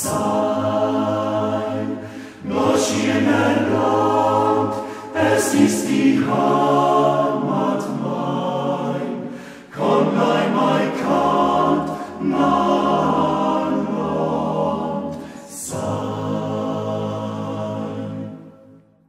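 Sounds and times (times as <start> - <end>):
male choir singing a cappella: 0.0 - 18.8.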